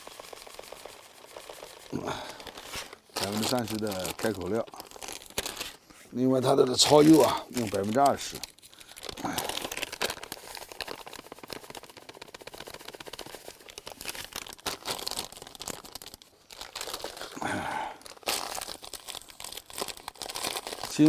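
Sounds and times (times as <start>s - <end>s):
plastic packets crinkling: 0.0s - 21.0s.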